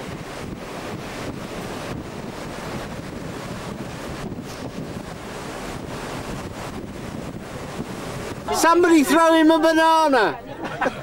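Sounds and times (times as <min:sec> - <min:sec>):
rough sea churning: 0:00.0 - 0:11.0
wind buffeting microphone: 0:00.0 - 0:11.0.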